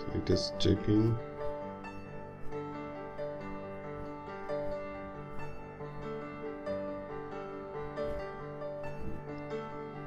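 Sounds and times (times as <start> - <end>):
light keyboard melody: 0.0 - 10.0.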